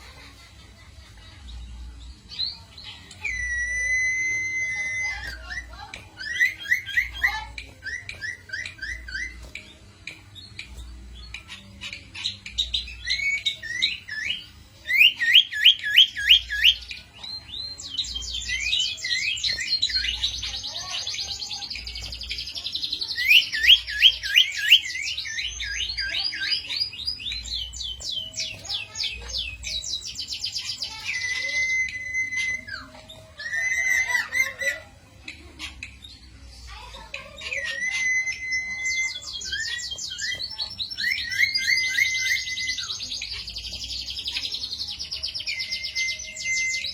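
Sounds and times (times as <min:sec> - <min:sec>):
bird chirps and trills: 0:02.1 - 0:46.9.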